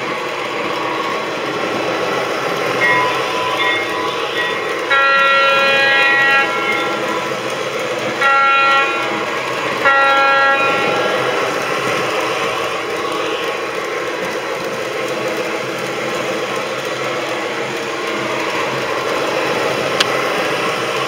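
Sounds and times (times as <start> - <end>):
toy train motors and wheels: 0.0 - 21.0
toy train diesel horn: 0.6 - 21.0.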